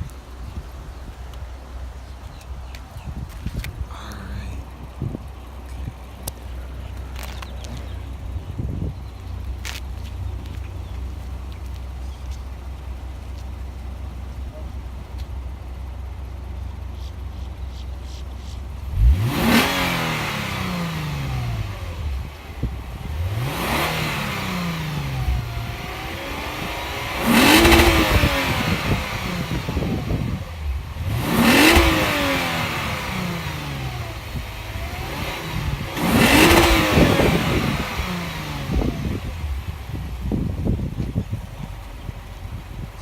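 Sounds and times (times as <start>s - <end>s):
car engine revving: 3.9s - 43.0s.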